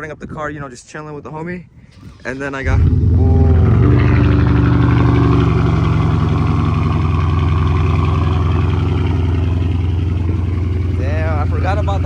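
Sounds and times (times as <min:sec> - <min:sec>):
car engine idling: 0:02.1 - 0:12.0.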